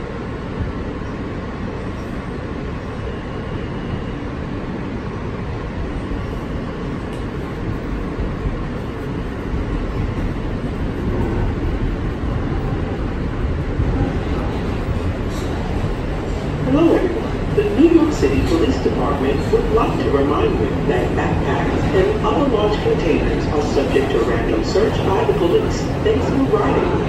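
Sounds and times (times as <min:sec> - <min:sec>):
subway car wheels rumbling on rails: 0:00.0 - 0:27.0.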